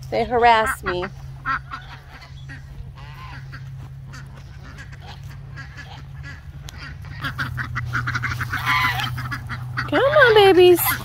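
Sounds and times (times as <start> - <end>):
geese honking: 0.2 - 11.0.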